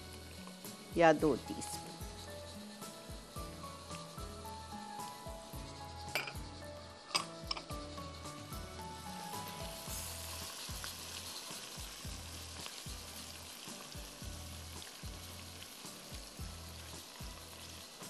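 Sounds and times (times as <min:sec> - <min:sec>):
ginger and garlic sizzling in oil: 0:00.0 - 0:18.0
low background music beat: 0:00.0 - 0:18.0.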